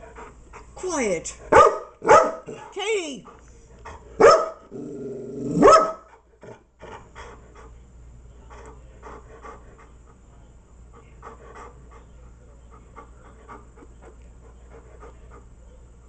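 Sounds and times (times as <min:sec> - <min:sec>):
dog panting: 0:00.0 - 0:04.2, 0:06.0 - 0:16.0.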